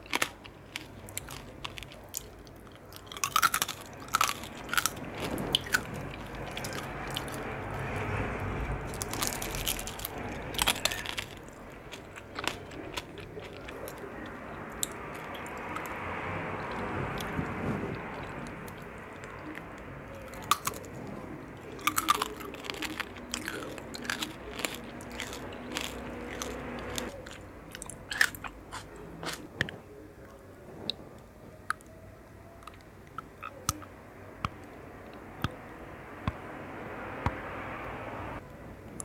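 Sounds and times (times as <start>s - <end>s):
crunchy sweets being chewed: 0.0s - 36.3s.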